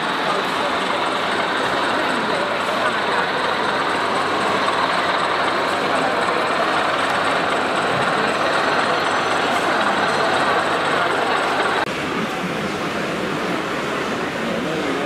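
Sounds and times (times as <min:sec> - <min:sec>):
exhibition hall din: 0:00.0 - 0:15.0.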